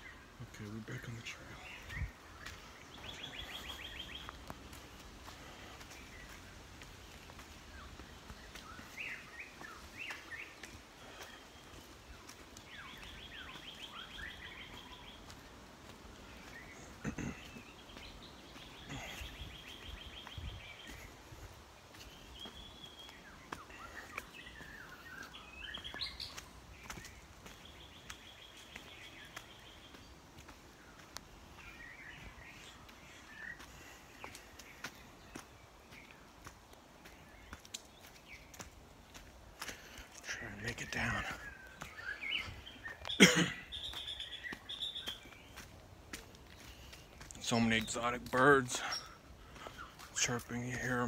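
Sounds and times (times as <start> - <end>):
forest birds chirping: 0.0 - 51.0.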